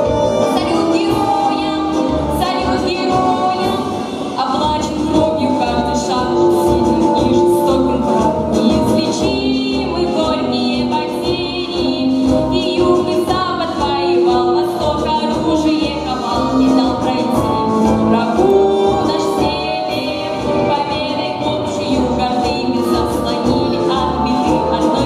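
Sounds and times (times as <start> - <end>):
instrumental backing music: 0.0 - 25.0.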